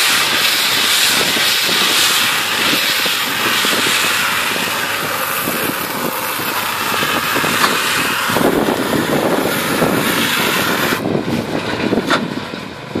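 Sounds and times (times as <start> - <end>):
tractor and baler running: 0.0 - 13.0.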